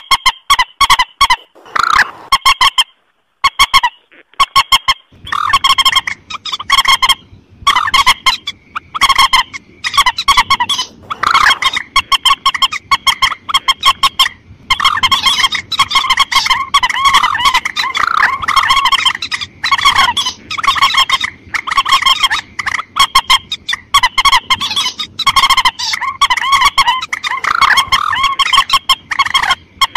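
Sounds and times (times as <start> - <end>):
harsh repeated bird calls: 0.0 - 29.9.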